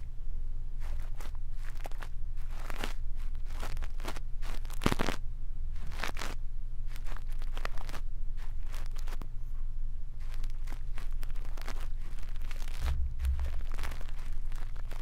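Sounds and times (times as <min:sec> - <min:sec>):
steady low hum: 0:00.0 - 0:15.0
brush scratching a microphone: 0:00.8 - 0:05.1, 0:05.8 - 0:09.2, 0:10.2 - 0:15.0.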